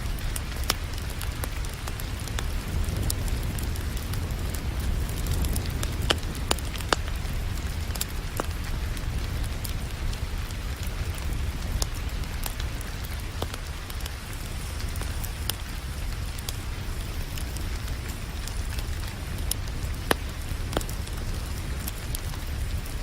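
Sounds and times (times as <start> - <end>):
falling rain: 0.0 - 23.0
wood fire crackling: 0.0 - 23.0.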